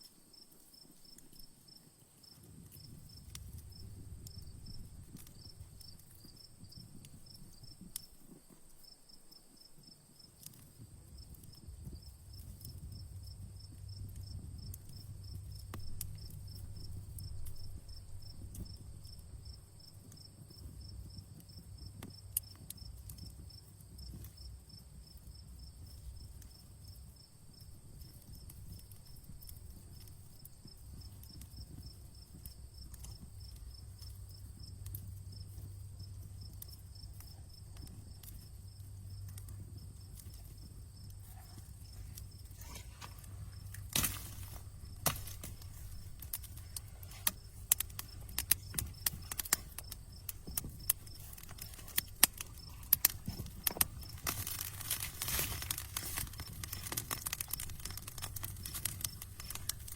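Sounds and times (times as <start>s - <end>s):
campfire crackling: 0.0s - 59.9s
crickets chirping: 0.0s - 59.9s
high insect trill: 8.8s - 59.9s.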